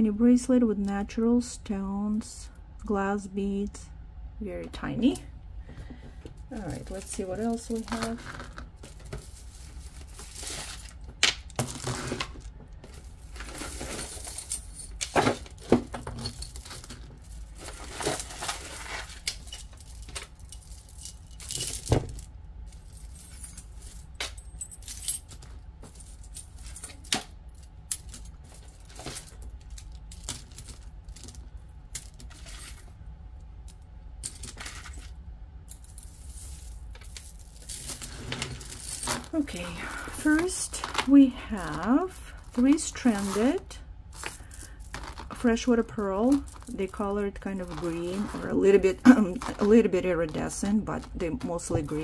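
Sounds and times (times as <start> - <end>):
jewelry clinking and rattling: 6.4 - 52.0.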